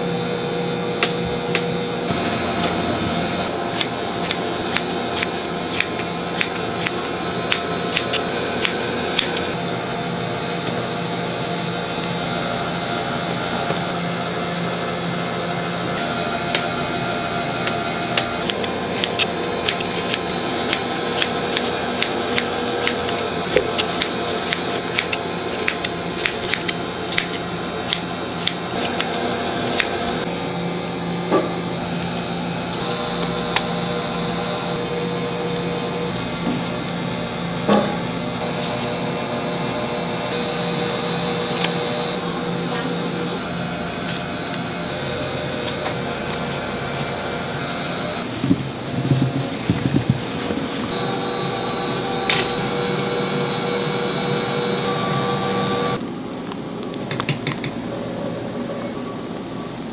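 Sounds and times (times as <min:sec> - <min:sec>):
kitchen machinery whirring: 0:00.0 - 0:58.3.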